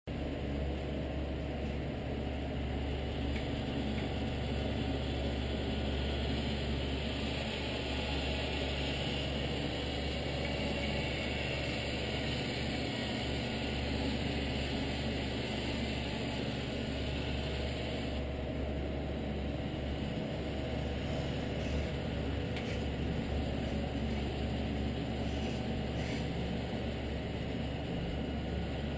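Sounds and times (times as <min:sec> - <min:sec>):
low hum: 0:00.1 - 0:28.9
toy truck motor drone: 0:03.2 - 0:18.3, 0:19.8 - 0:28.9.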